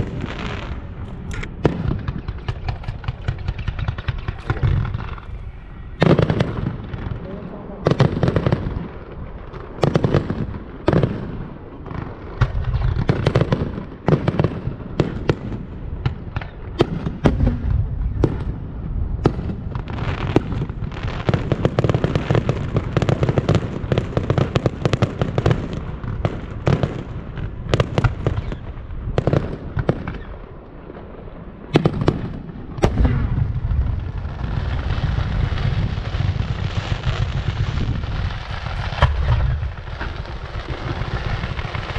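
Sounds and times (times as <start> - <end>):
fireworks banging: 0.0 - 41.9
fireworks crackling: 0.0 - 41.9.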